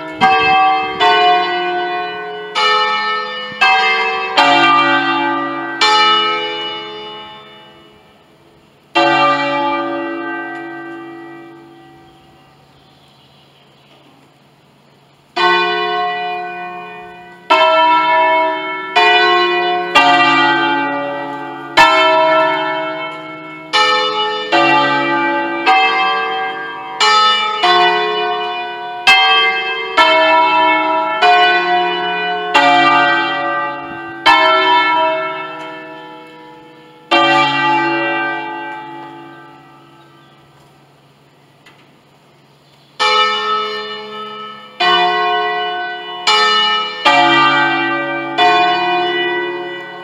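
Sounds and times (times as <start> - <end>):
church bells ringing: 0.0 - 12.6, 15.2 - 41.2, 43.0 - 50.0.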